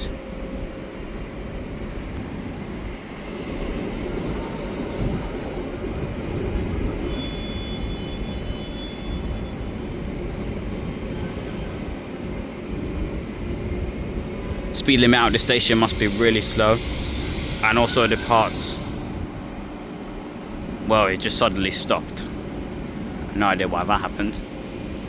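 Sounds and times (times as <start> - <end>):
train rumbling out of station: 0.0 - 25.0.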